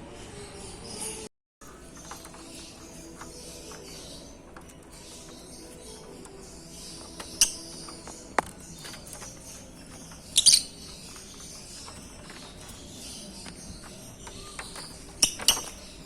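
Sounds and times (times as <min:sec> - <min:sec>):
birds chattering: 0:00.0 - 0:16.0
sharp shrill bird calls: 0:01.9 - 0:16.0.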